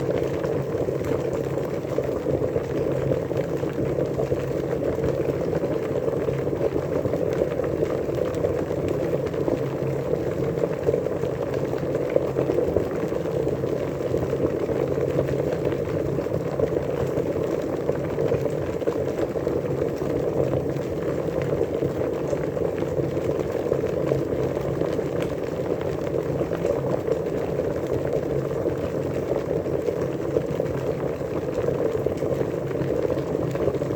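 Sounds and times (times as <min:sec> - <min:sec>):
water boiling and bubbling: 0:00.0 - 0:33.9.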